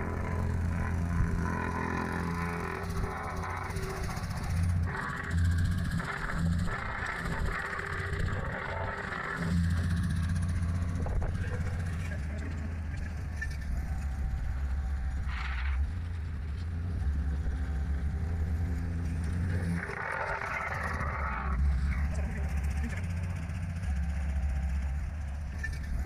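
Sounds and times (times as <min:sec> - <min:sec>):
asphalt roller running: 0:00.0 - 0:26.0
plate compactor engine drone: 0:00.0 - 0:26.0.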